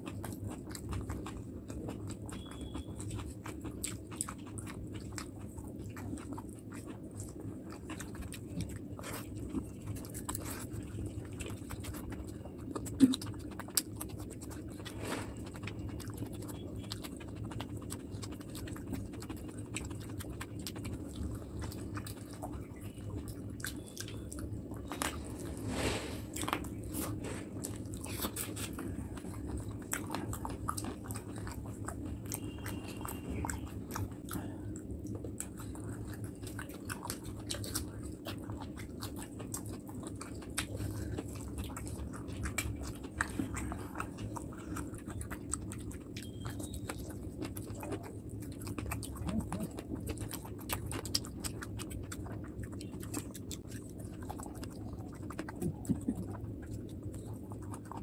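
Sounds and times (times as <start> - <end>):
close chewing: 0.0 - 58.0
steady low hum: 0.0 - 58.0.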